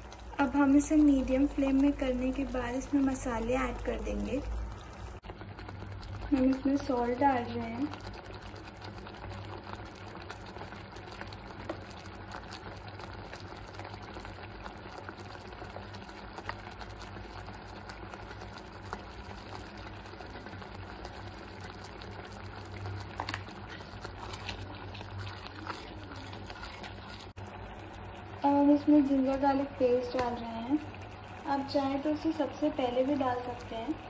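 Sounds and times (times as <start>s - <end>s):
tomato puree bubbling: 0.0s - 34.0s.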